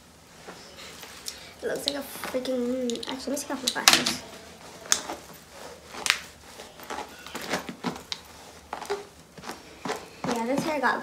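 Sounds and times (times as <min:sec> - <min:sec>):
wig hair rustling and clicking: 0:00.4 - 0:11.0.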